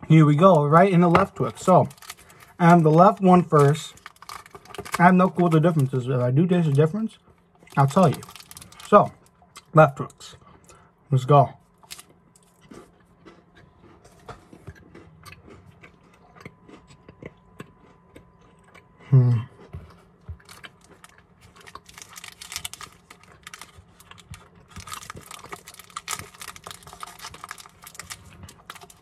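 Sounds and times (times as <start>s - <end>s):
crunchy chewing: 1.0s - 6.0s, 6.6s - 9.7s, 11.7s - 29.0s.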